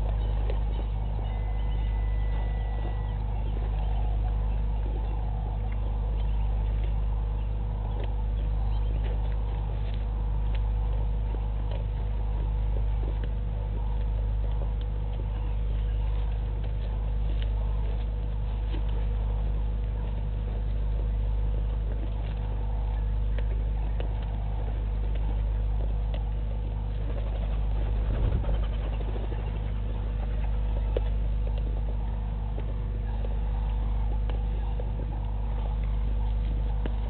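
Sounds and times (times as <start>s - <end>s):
faint ticks and crackles: 0.0s - 37.0s
low electrical hum: 0.0s - 37.0s.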